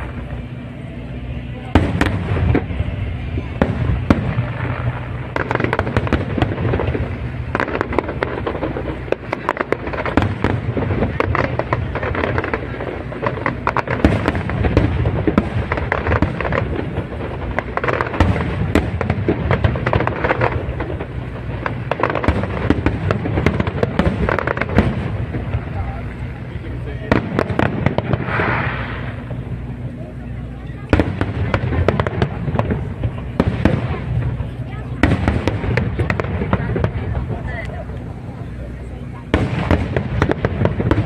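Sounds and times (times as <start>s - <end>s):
fireworks booming bursts: 0.0s - 41.0s
fireworks crackling: 0.0s - 41.0s.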